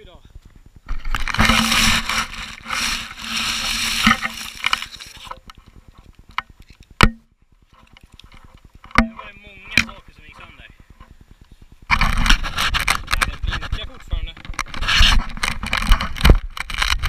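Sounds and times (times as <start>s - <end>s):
rustling and scraping in grass: 0.9s - 6.1s, 7.6s - 17.0s.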